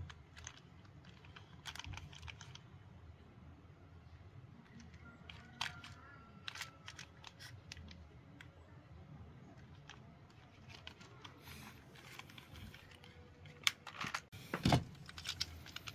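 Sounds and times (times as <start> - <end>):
plastic toy clicks and rattles: 0.0 - 2.7, 4.7 - 8.5, 9.6 - 15.9.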